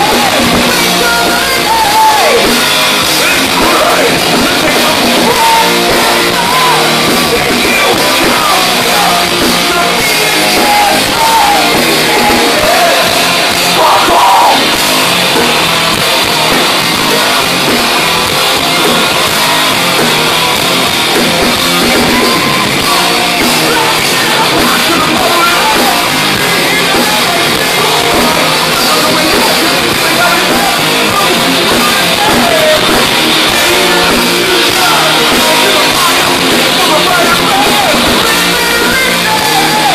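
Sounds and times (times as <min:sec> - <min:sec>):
person singing or yelling: 0:00.0 - 0:14.8, 0:21.8 - 0:39.9
bass: 0:00.0 - 0:39.9
distorted electric guitars: 0:00.0 - 0:39.9
drums: 0:00.0 - 0:39.9.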